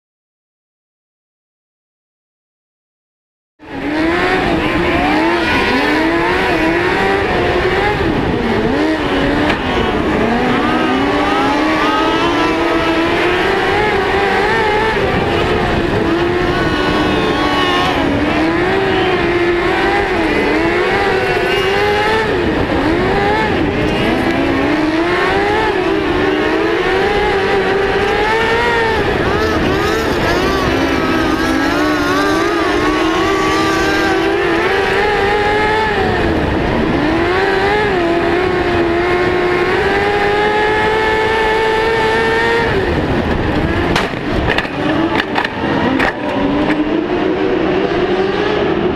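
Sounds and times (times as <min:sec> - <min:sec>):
race car engine revving: 0:03.6 - 0:48.9.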